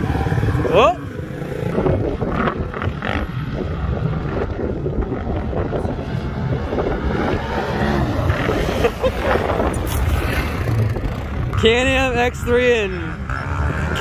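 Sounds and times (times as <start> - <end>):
off-road vehicle engines racing: 0.0 - 14.0
wind buffeting microphone: 0.0 - 14.0.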